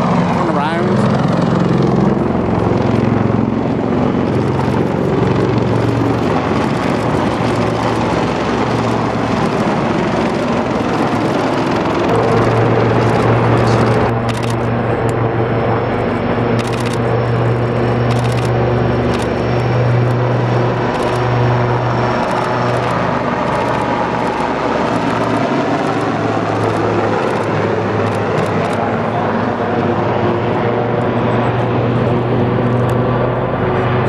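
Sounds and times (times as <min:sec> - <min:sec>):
helicopter rotor thrum and engine whine: 0:00.0 - 0:34.0.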